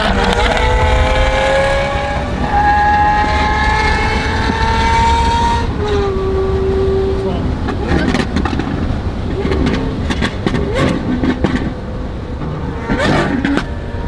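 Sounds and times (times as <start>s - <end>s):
heavy low rumble: 0.0s - 14.0s
sports car engine revving: 0.0s - 14.0s.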